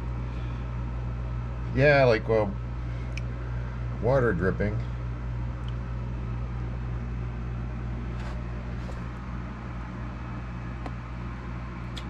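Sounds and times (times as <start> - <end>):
dehumidifiers humming: 0.0 - 12.0.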